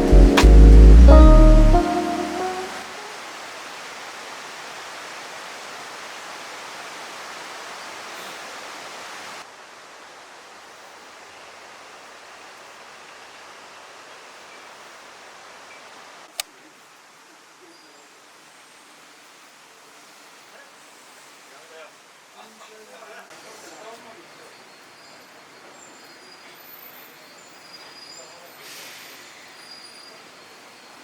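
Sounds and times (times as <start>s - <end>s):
outdoor ambient hiss: 0.0s - 31.0s.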